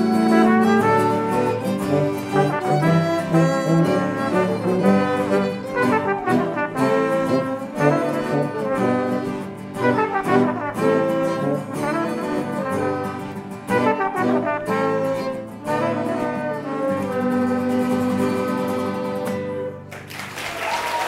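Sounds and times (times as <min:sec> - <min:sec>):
folk ensemble playing a tune: 0:00.0 - 0:20.0.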